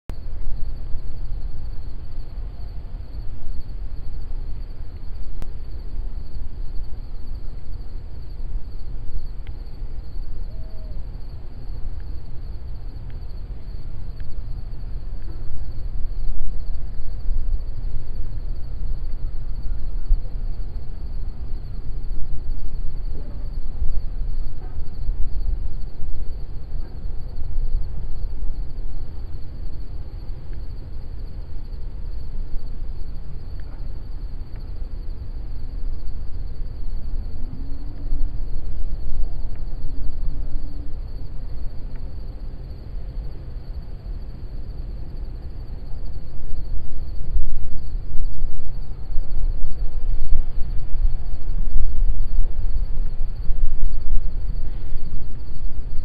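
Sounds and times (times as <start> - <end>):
insect chorus buzzing: 0.1 - 56.0
low rumble: 0.1 - 56.0.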